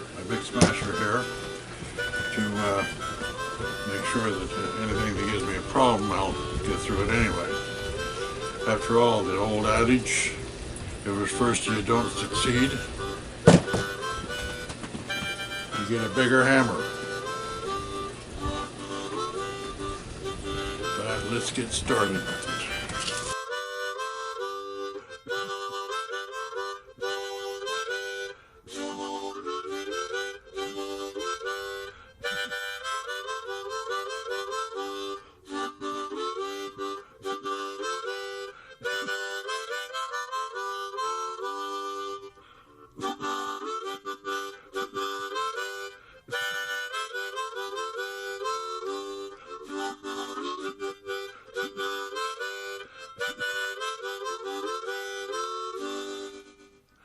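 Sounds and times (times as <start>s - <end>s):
instrumental background music: 0.0s - 10.3s, 11.1s - 57.0s.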